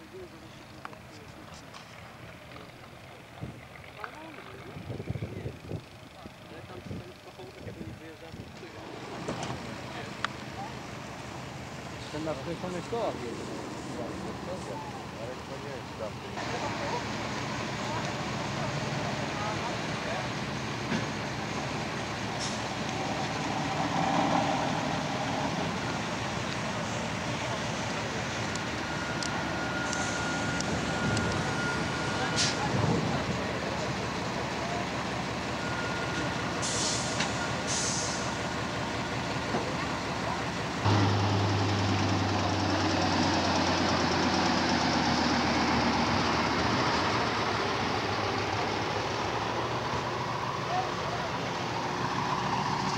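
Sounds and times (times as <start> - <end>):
outdoor noise: 0.0 - 52.9
diesel truck engine revving: 8.6 - 52.9.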